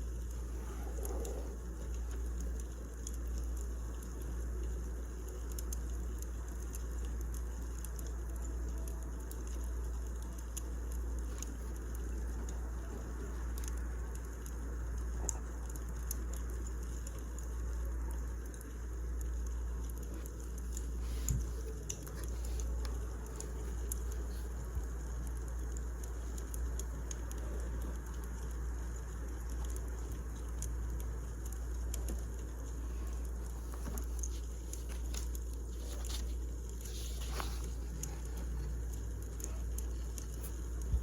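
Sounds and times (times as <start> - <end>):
firewood crackling: 0.1 - 41.0.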